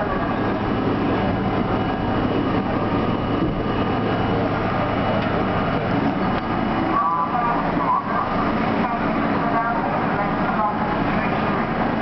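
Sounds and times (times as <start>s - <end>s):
low motor hum: 0.0s - 12.0s
steel wheels rumbling on rail: 0.0s - 12.0s.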